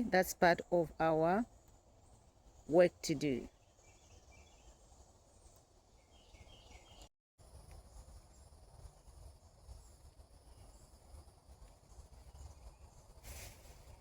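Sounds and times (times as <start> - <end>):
bird chirping softly: 0.0 - 14.0
faint insect hum: 0.0 - 14.0.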